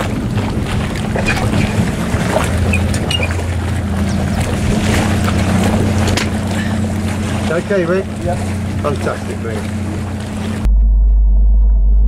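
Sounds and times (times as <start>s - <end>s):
motorboat engine running slowly: 0.0s - 10.7s
water noise: 0.0s - 10.7s
wind noise: 0.0s - 10.7s.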